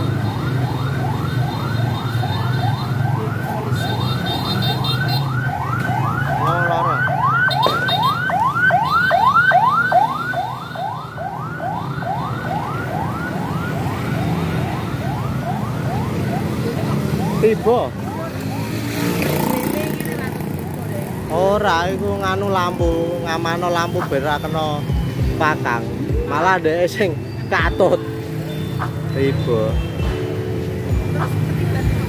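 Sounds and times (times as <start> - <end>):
siren yelping: 0.0 - 19.1, 22.8 - 29.8
traffic and engine noise: 0.0 - 32.0.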